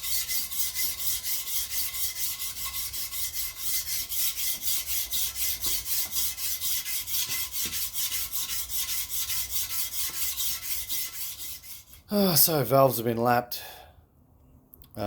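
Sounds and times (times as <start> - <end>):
rasping strokes on metal: 0.0 - 12.1.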